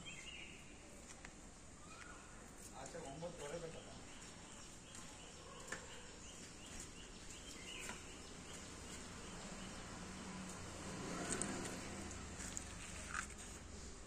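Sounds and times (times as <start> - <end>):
faint outdoor background noise: 0.0 - 14.0.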